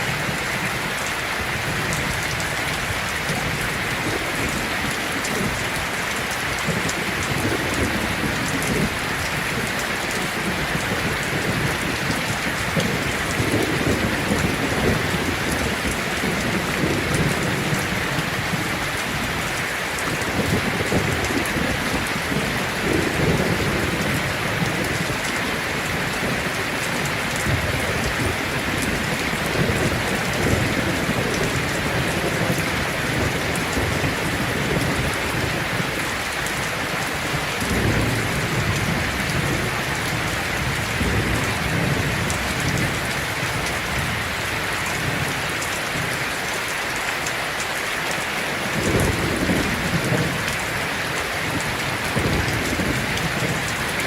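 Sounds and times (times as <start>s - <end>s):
low thunder rumbles: 0.0s - 46.1s, 48.7s - 54.0s
heavy rain on a tin roof: 0.0s - 54.0s.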